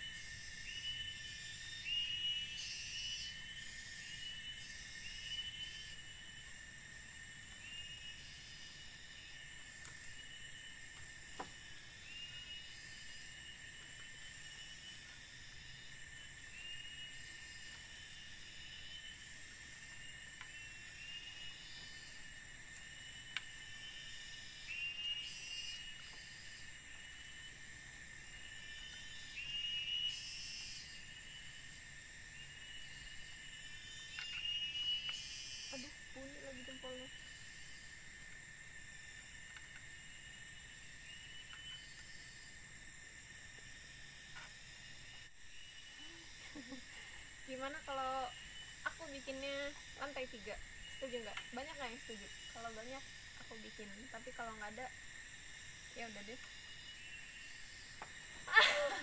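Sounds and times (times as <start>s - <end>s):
insect chorus hiss: 0.0s - 59.0s
short insect chirp: 0.0s - 59.0s.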